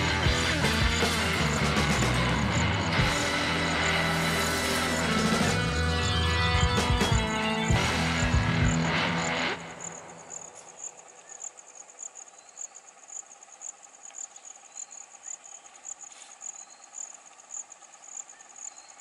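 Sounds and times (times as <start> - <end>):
insects chirping in pulses: 0.0 - 19.0.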